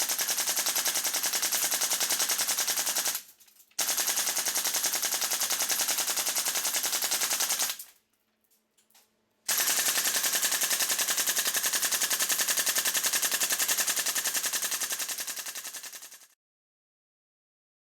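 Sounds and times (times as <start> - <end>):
airsoft gun full-auto fire: 0.0 - 7.8, 9.5 - 16.4.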